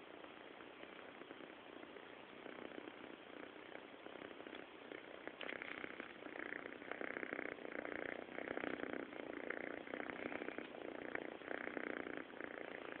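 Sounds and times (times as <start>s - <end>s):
cat snoring: 0.0s - 13.0s.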